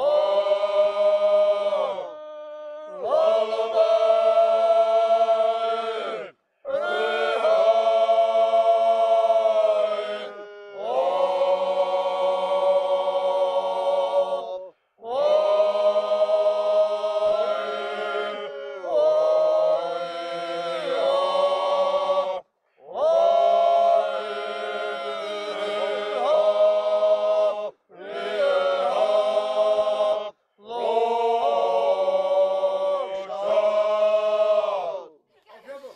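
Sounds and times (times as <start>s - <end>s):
men's choir singing a cappella: 0.0s - 22.4s, 23.0s - 35.1s.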